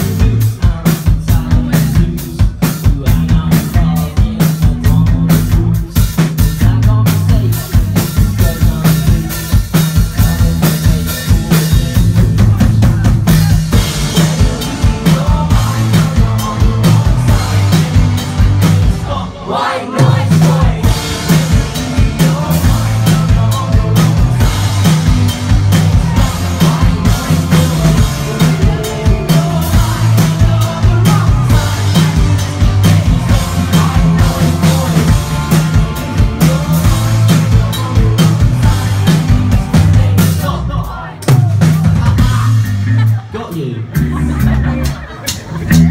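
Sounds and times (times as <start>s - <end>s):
drum kit: 0.0s - 45.9s
guitar: 0.0s - 45.9s
live rock band playing: 0.0s - 45.9s.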